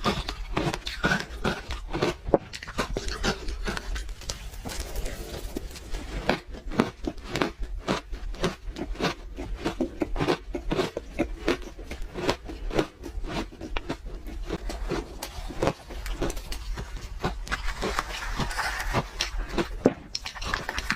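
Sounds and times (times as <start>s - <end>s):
chewing crunchy ice: 0.0s - 20.9s.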